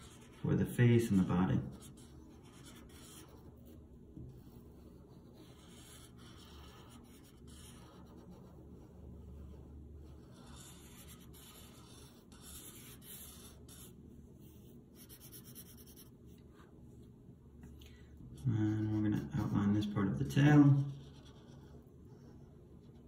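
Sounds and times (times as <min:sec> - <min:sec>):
marker rubbing across paper: 0:00.0 - 0:16.7, 0:20.6 - 0:23.0.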